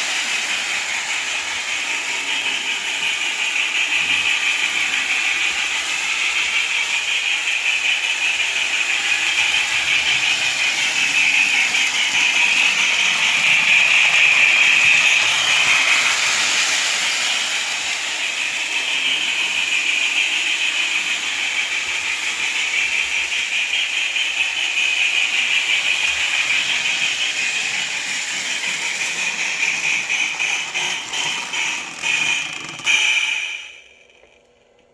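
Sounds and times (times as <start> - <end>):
steam hiss: 0.0 - 33.9
model train clattering: 0.0 - 34.9.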